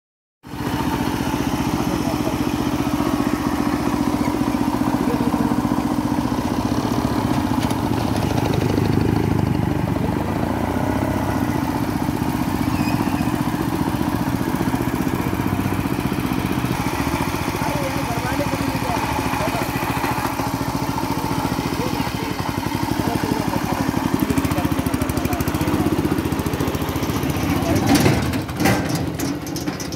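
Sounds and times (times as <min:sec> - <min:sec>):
power tiller engine running: 0:00.5 - 0:29.9.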